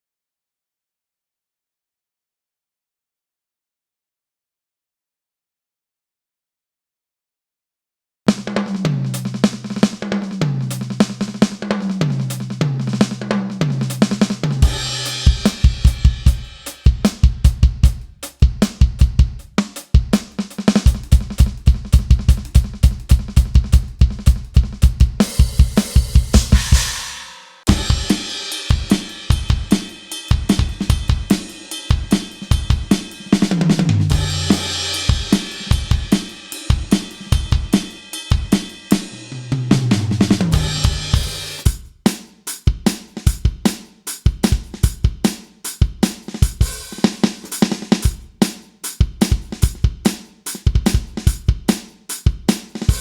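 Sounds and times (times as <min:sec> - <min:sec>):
electronic drum kit groove: 0:08.3 - 0:53.0.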